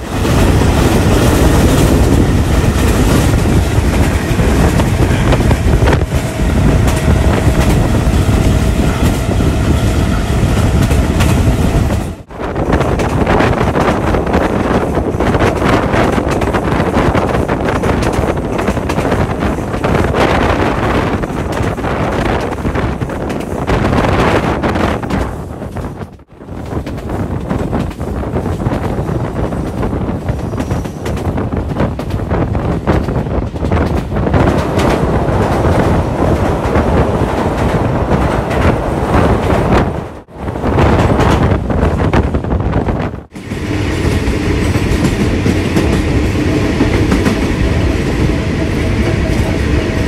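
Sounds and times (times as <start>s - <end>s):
train wheels rumbling on rails: 0.0s - 50.0s
wind rushing over microphone: 0.0s - 50.0s.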